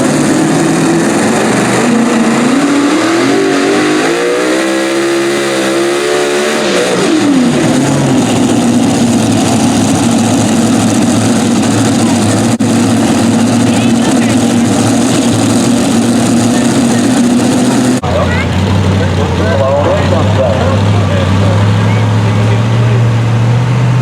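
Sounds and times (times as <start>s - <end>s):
loud tractor engine revving: 0.0s - 24.0s.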